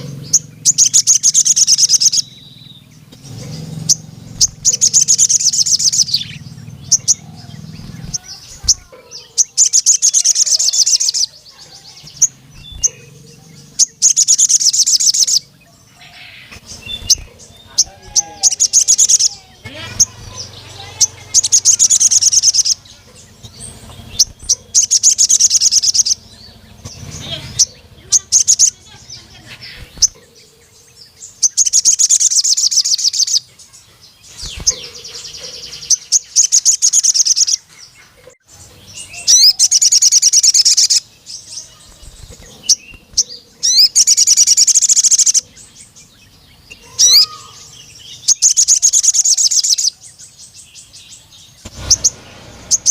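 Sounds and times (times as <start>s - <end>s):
bird high-pitched trilling: 0.0s - 52.9s.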